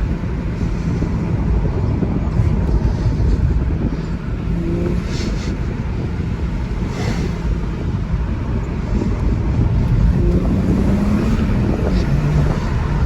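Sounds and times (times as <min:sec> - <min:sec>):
car engine running: 0:00.0 - 0:13.0
road and wind noise: 0:00.0 - 0:13.0.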